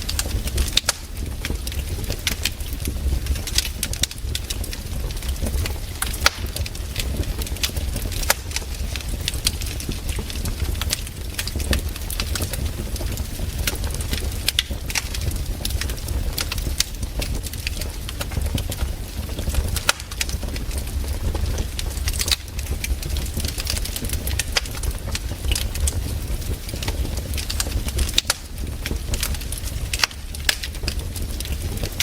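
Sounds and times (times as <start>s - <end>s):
campfire wood crackling: 0.0s - 32.0s
low fire rumble: 0.0s - 32.0s.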